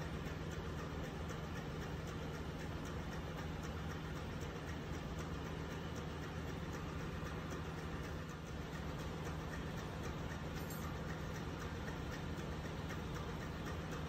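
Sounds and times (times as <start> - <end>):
engine-room machinery drone: 0.0 - 14.0
faint regular ticking: 0.0 - 14.0.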